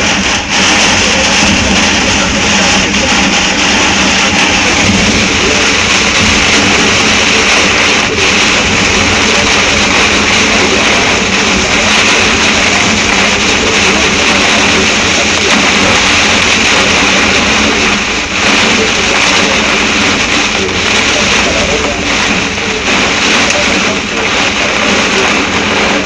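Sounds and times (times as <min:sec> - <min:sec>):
heavy rain pelting down: 0:00.0 - 0:26.0.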